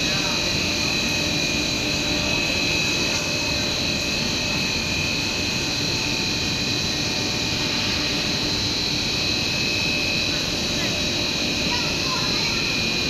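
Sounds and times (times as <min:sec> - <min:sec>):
drone of motors and rollers: 0:00.0 - 0:13.0
steady high whines: 0:00.0 - 0:13.0.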